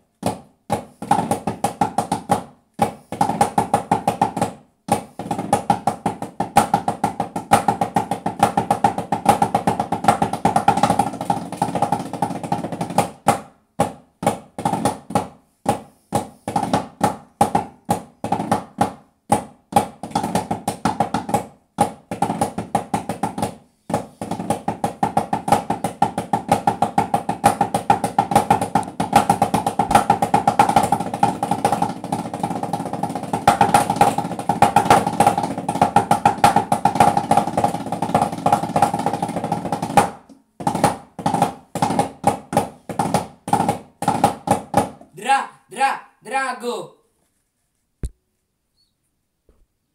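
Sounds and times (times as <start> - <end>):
snare drum strokes and rolls: 0.0 - 46.0.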